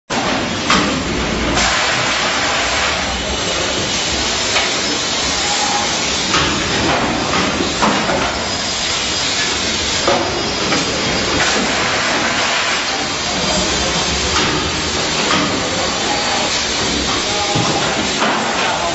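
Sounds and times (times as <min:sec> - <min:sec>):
steady machine hiss: 0:00.1 - 0:18.9.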